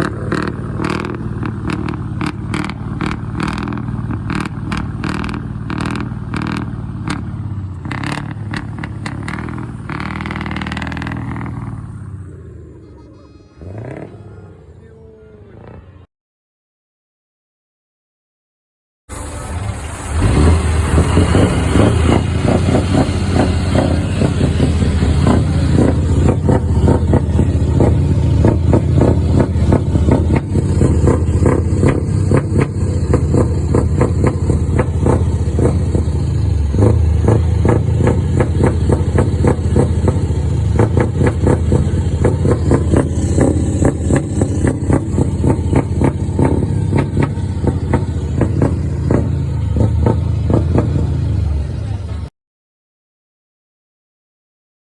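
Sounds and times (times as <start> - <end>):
diesel truck engine running: 0.0 - 15.0, 19.1 - 52.3.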